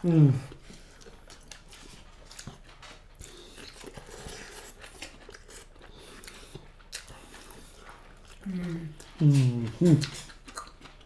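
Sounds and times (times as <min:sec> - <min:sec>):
people chewing and biting food: 0:00.0 - 0:11.0.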